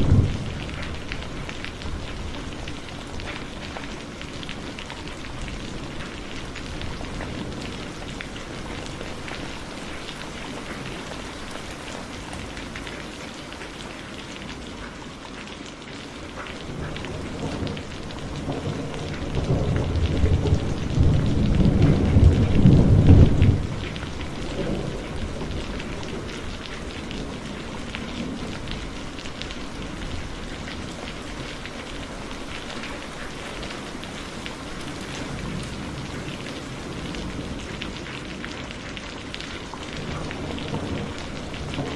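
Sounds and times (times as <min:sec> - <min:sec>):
thunder rumbling: 0:00.0 - 0:13.8, 0:16.5 - 0:41.9
heavy rain falling: 0:00.0 - 0:41.9.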